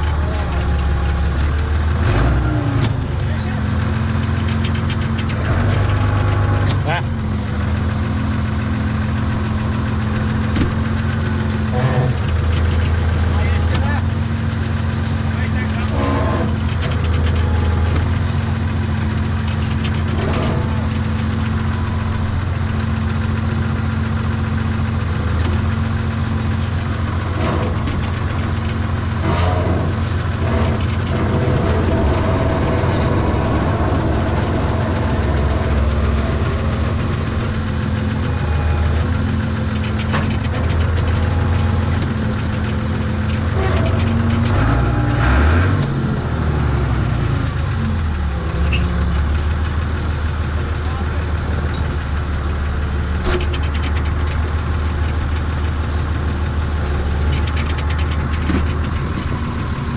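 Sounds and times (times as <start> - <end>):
knocks and clatters: 0.0 - 45.0, 50.6 - 59.9
tractor diesel engine running: 0.0 - 59.9.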